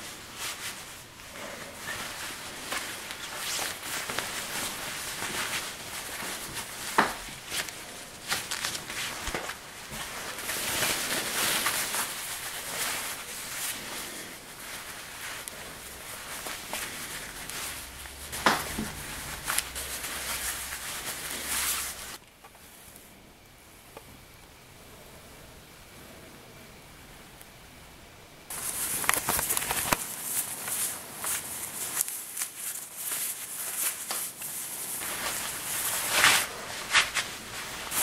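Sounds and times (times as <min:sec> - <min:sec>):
necktie fabric rustling: 0:00.0 - 0:22.2, 0:28.5 - 0:38.0
faint hiss: 0:00.0 - 0:38.0.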